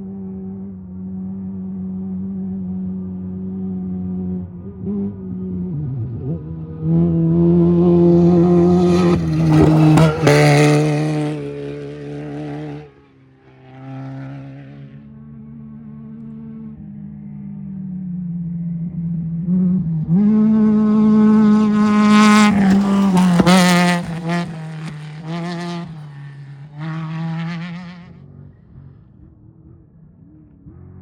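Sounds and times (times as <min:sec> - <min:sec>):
race vehicle engine passing: 0:00.3 - 0:31.0.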